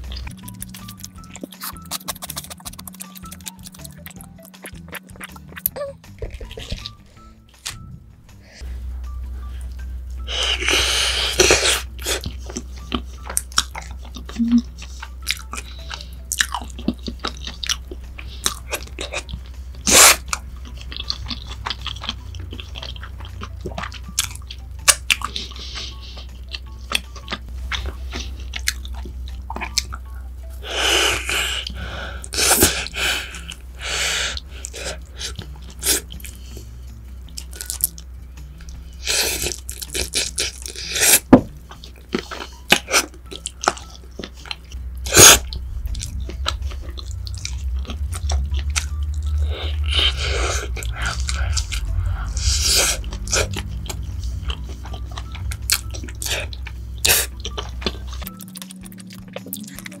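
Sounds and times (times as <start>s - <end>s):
chewing crunchy food: 0.0s - 7.8s, 11.3s - 30.1s, 34.3s - 60.0s.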